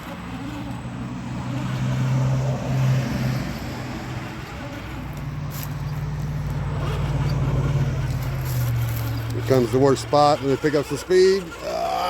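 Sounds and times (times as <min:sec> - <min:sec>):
rc car motor and gears whining: 0:00.0 - 0:12.0.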